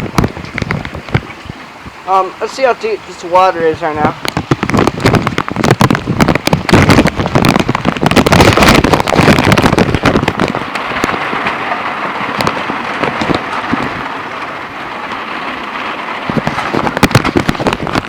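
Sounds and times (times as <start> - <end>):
rain drops on plastic bag: 0.0 - 18.0
rain hiss: 0.0 - 18.0.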